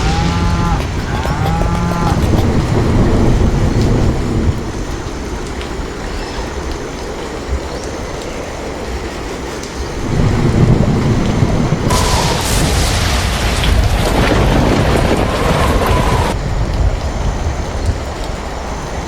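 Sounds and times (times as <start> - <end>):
strong wind rushing: 0.0 - 19.0.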